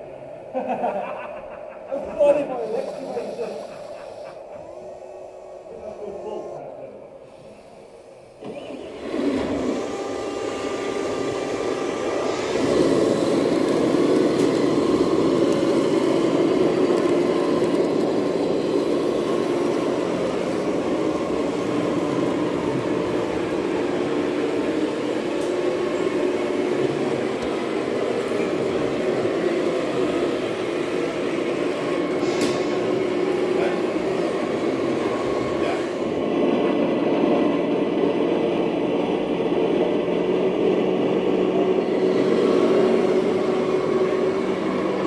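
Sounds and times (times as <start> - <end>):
model trucks mechanical din: 7.6 - 45.0.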